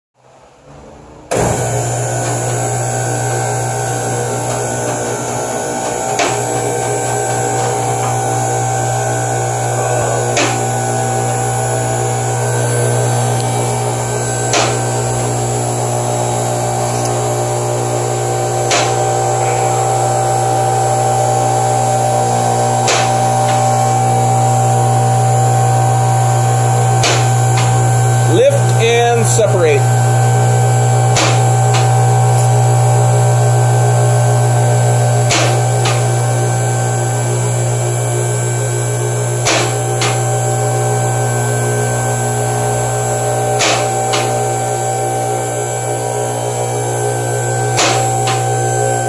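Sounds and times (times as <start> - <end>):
hydraulic power unit humming: 0.2 - 49.0.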